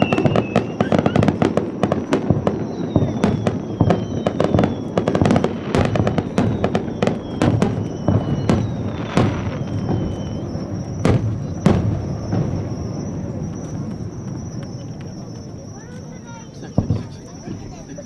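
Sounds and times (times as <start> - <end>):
rumbling echo: 0.0 - 17.9.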